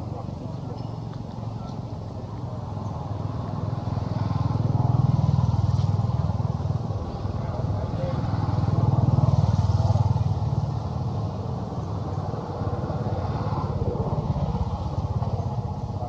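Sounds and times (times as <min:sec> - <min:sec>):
engine running low rumble: 0:00.0 - 0:16.0.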